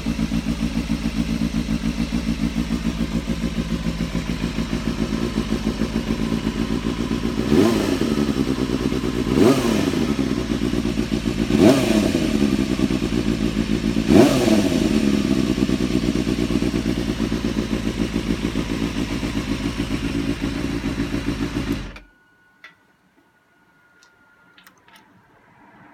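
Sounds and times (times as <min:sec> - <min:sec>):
motorcycle engine idling: 0:00.0 - 0:22.1
motorcycle engine throttle blips: 0:00.0 - 0:25.3.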